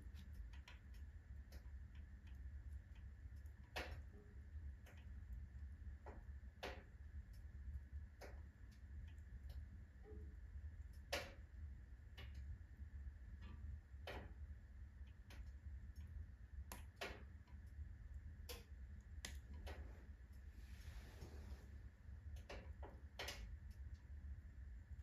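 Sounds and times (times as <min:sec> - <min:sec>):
firewood crackling in stove: 0:00.0 - 0:25.0
low steady rumble: 0:00.0 - 0:25.0.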